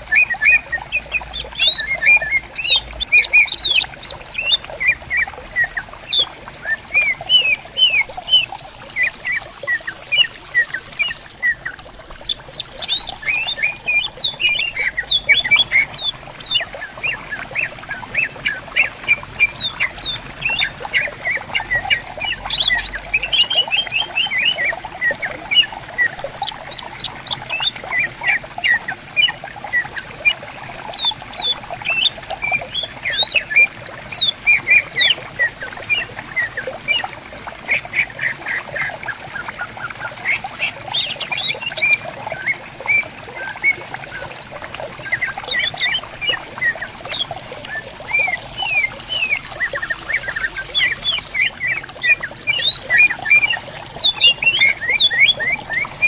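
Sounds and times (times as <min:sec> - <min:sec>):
birds whistling: 0:00.0 - 0:29.9, 0:31.0 - 0:37.1, 0:45.0 - 0:56.0
stream burbling: 0:00.0 - 0:56.0.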